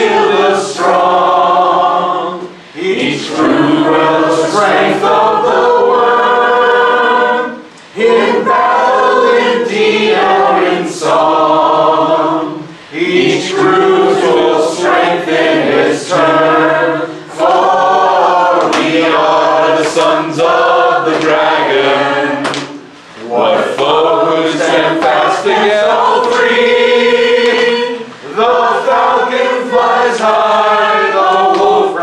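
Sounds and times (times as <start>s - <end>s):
group singing a cappella: 0.0s - 32.0s.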